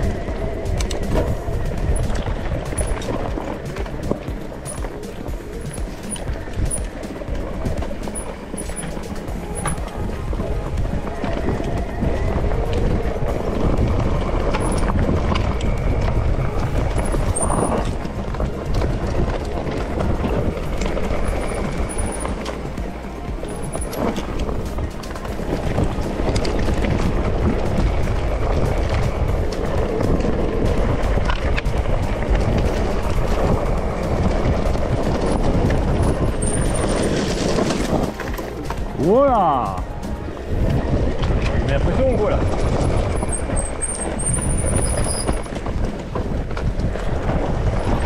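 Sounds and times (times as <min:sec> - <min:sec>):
bike rattles and clicks: 0:00.0 - 0:48.0
wind and tyre rumble: 0:00.0 - 0:48.0.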